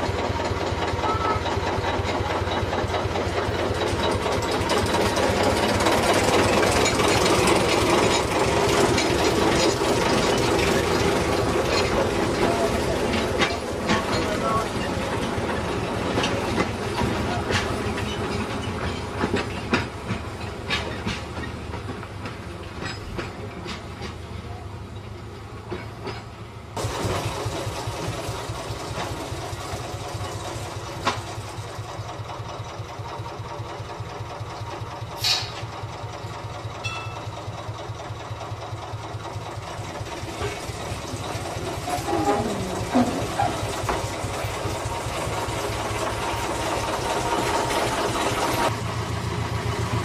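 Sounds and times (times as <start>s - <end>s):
locomotive engine throbbing: 0.0s - 24.3s, 26.8s - 50.0s.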